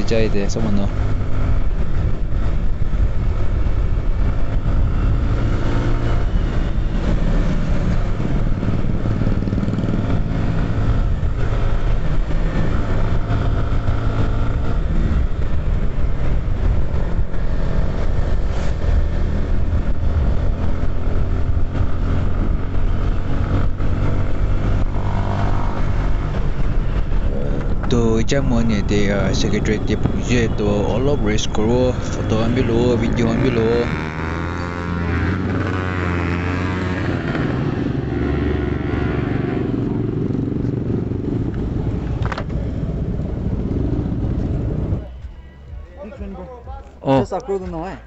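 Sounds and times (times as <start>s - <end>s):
motorcycle engine at speed: 0.0s - 45.4s.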